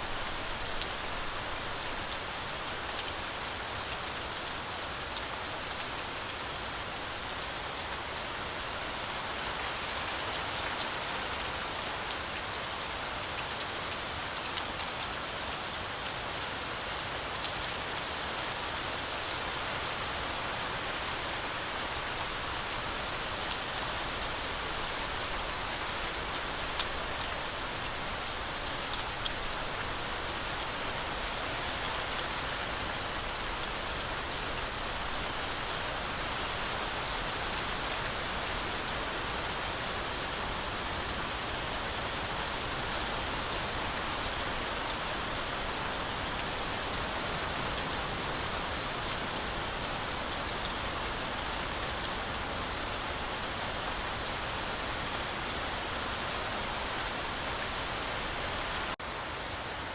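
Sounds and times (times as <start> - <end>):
heavy rain through trees: 0.0 - 59.9.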